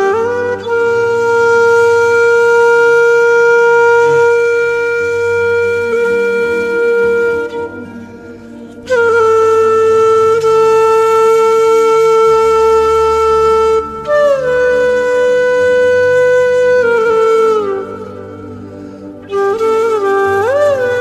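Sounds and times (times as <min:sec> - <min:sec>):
flute notes: 0:00.0 - 0:21.0.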